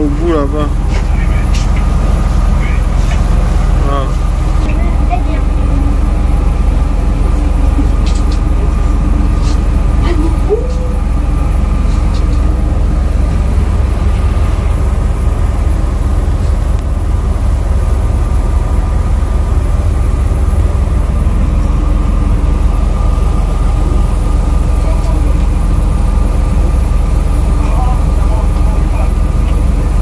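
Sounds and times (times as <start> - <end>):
large vehicle engine rumbling: 0.0 - 30.0.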